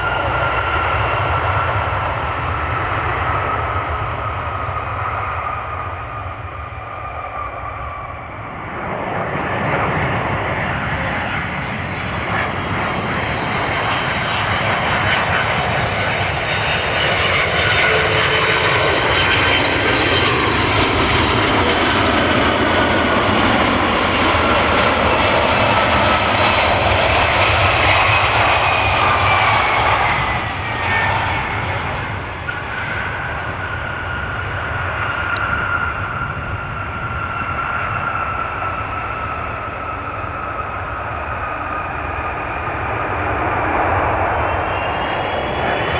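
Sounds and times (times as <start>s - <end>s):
jet airliner passing: 0.0s - 45.9s.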